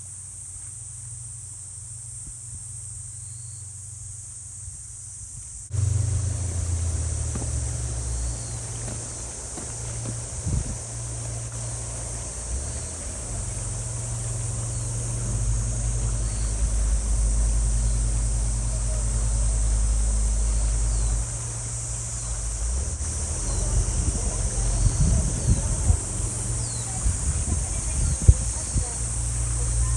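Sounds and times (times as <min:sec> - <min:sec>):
faint high hiss: 0:00.0 - 0:29.9
boat engine droning: 0:05.7 - 0:29.9.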